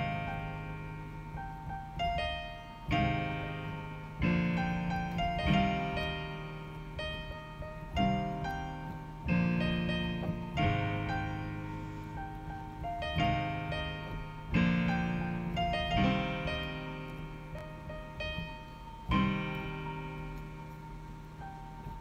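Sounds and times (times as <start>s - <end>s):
piano playing slow chords: 0.0s - 22.0s.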